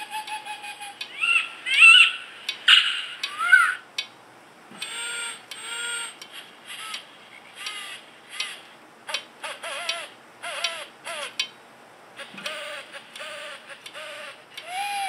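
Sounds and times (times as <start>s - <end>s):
recorded owl calls from small speaker: 0.0s - 3.9s, 4.8s - 7.0s, 7.6s - 11.4s, 12.2s - 15.0s.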